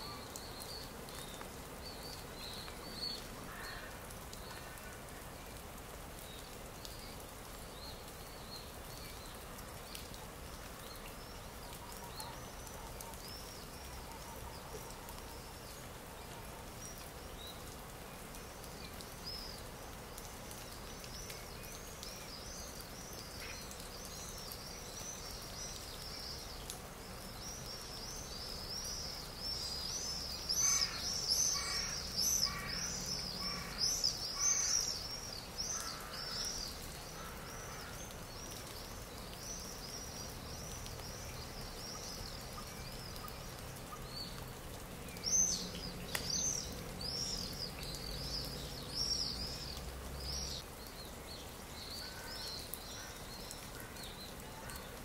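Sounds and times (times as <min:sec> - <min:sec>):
small birds chirping and twittering: 0:00.0 - 0:55.0.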